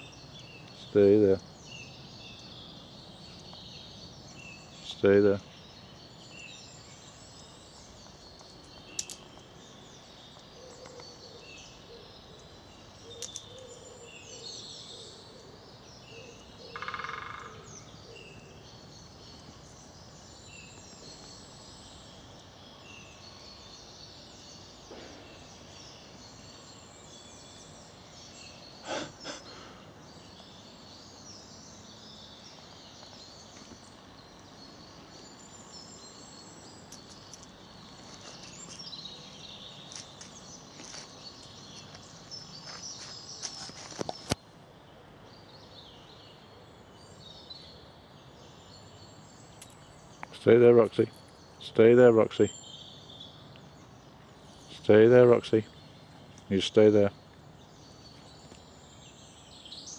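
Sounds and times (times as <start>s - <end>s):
small birds chirping and singing: 0.0s - 59.9s.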